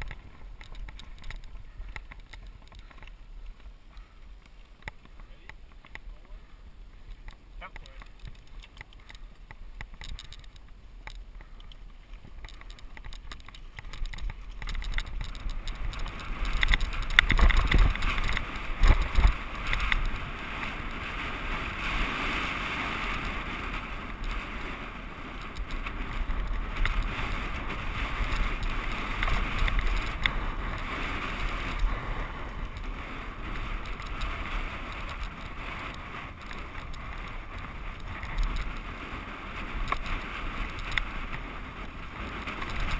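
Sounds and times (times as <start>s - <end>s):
bike tyre and frame rattle: 0.0s - 42.9s
wind on microphone: 0.0s - 42.9s.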